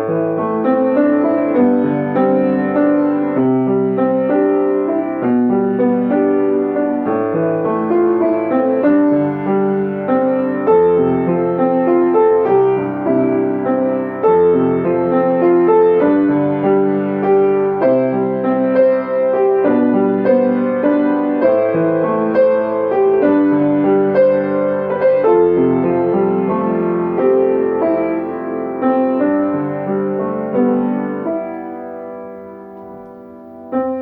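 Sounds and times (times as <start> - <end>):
gentle piano piece: 0.0 - 34.0.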